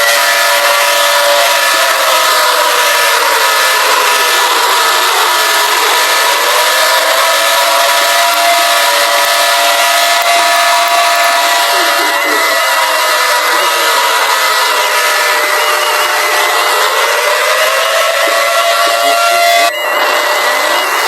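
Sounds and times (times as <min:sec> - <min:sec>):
emergency alert alarm tones: 0:00.0 - 0:21.0.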